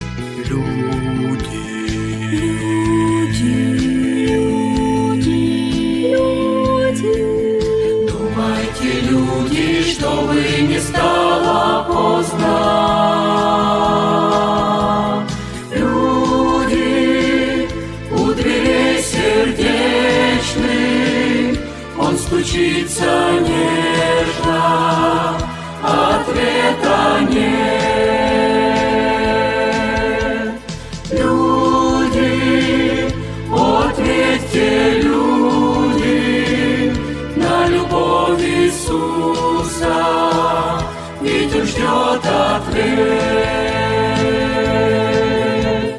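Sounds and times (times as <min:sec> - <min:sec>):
musical accompaniment with bass line: 0:00.0 - 0:45.9
choir singing slow song: 0:00.4 - 0:45.9.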